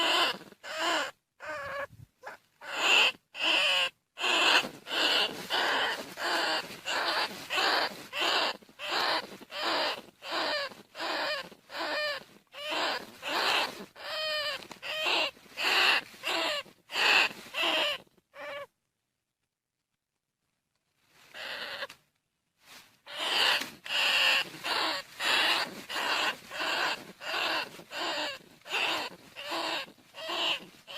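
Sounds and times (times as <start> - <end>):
rat squealing: 0.0 - 18.7, 21.3 - 22.0, 23.1 - 30.9.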